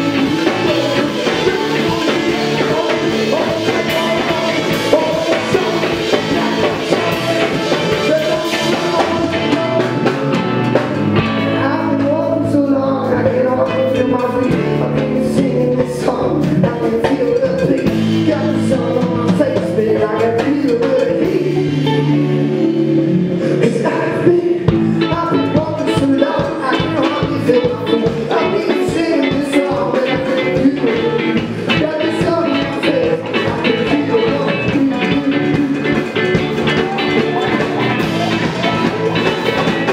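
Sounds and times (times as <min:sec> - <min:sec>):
man singing into a microphone: 0:00.0 - 0:10.6, 0:11.2 - 0:39.9
drums: 0:00.0 - 0:39.9
electric guitars: 0:00.0 - 0:39.9.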